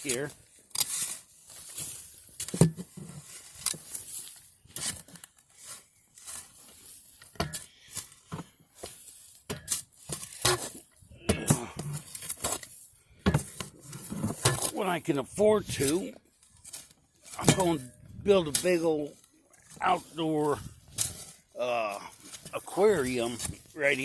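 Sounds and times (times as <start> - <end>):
camera handling rustling and scraping: 0.3 - 11.1, 11.7 - 14.8, 15.8 - 19.8, 20.6 - 22.6.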